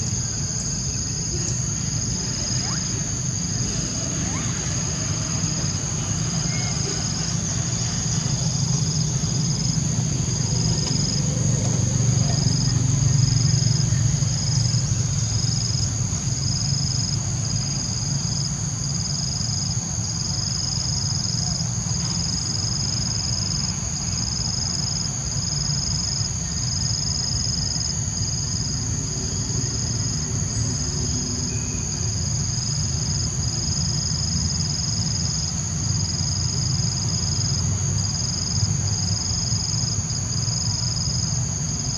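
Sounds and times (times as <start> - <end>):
high insect trill: 0.0 - 41.9
pulsing insect trill: 0.0 - 41.9.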